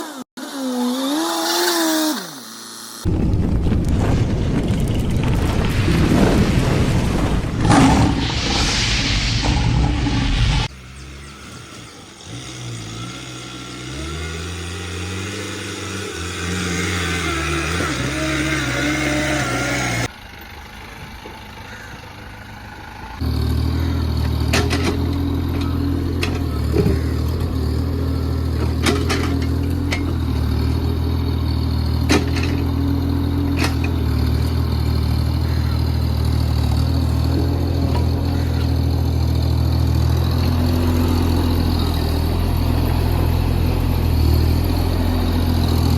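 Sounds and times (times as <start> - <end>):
excavator diesel engine running: 6.7 - 45.9.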